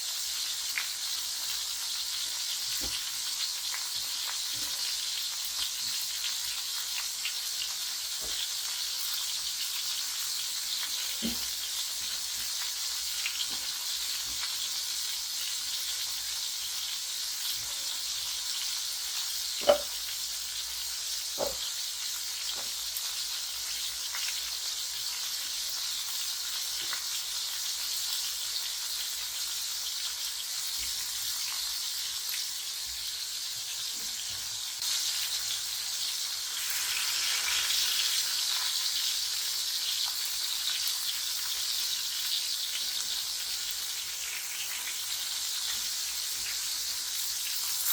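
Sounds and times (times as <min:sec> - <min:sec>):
food sizzling in oil: 0:00.0 - 0:47.9.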